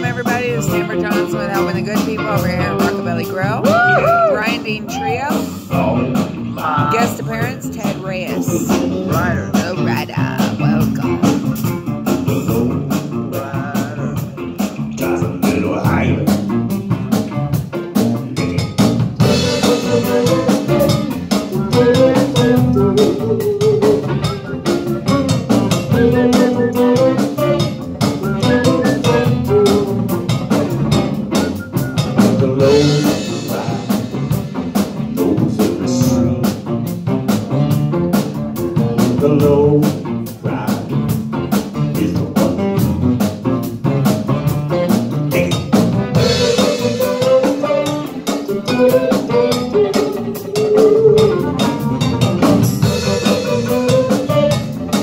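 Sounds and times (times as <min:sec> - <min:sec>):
drum kit steady beat: 0:00.0 - 0:55.0
electric guitar: 0:00.0 - 0:55.0.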